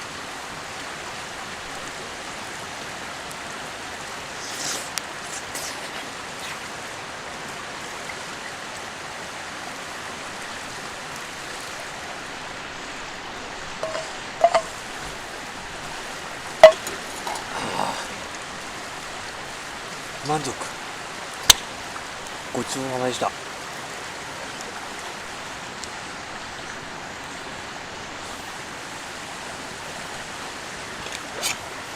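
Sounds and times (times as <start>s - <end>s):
river flowing: 0.0s - 31.9s.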